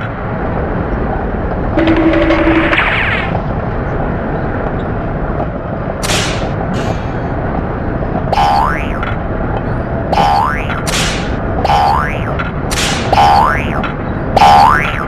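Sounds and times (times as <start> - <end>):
roller coaster rumble: 0.0 - 15.0.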